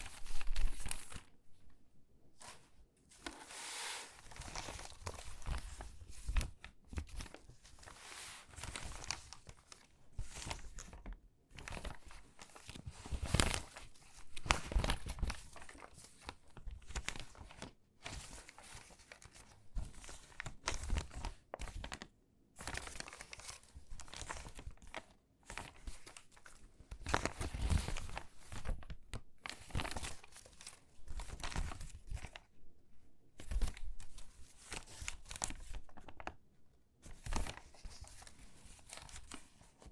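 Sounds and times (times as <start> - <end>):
magazine pages rustling and crackling: 0.0 - 1.4, 2.3 - 32.5, 33.4 - 36.4, 37.0 - 39.9.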